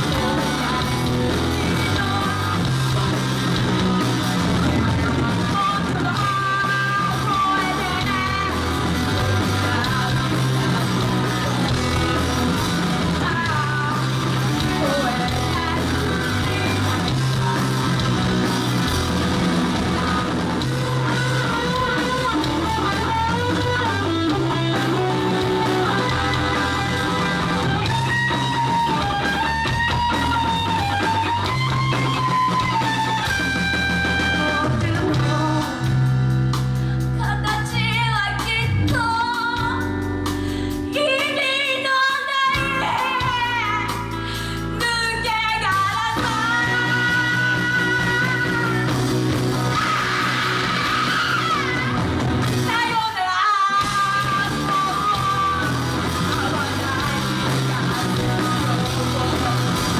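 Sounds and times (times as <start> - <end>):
repeating bass line: 0.0 - 36.8, 45.7 - 52.9, 53.8 - 59.9
rock band playing live: 0.0 - 59.9.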